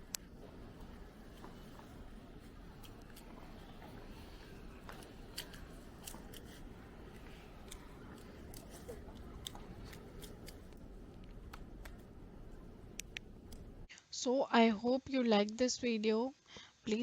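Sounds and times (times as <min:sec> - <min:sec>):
low steady rumble: 0:00.0 - 0:13.9.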